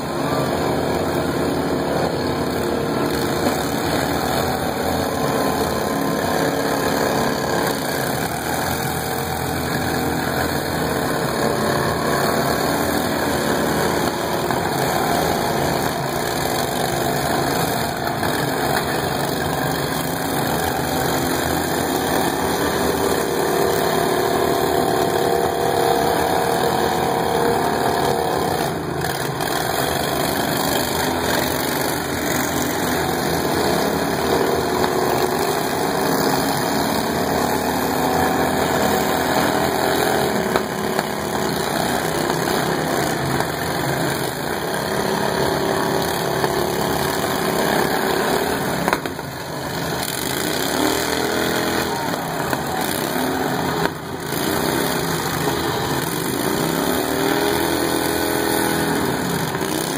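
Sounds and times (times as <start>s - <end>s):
lawn mower engines revving: 0.0s - 59.9s.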